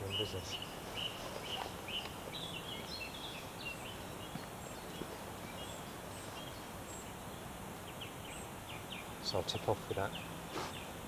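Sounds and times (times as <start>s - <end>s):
small birds chirping: 0.0s - 11.0s
steady background hiss: 0.0s - 11.0s.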